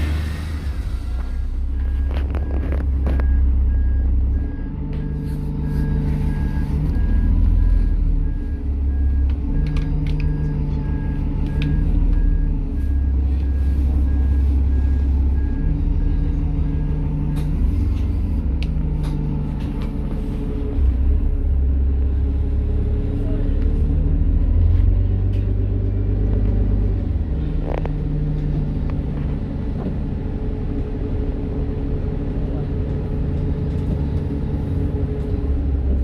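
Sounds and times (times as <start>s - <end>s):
bus diesel engine droning: 0.0s - 36.0s.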